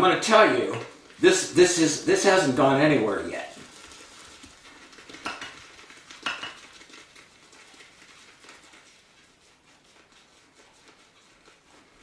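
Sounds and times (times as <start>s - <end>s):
shaving brush swirling in bowl: 0.2s - 12.0s.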